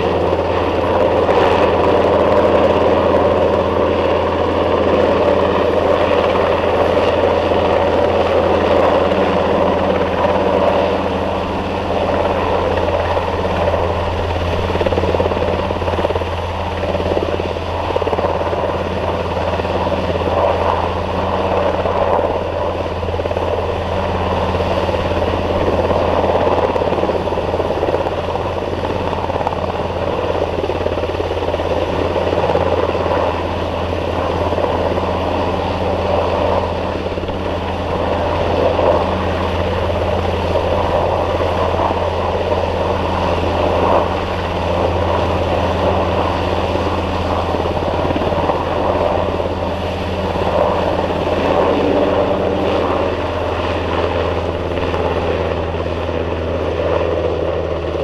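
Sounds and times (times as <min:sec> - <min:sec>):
helicopter rotors and turbines: 0:00.0 - 0:58.0.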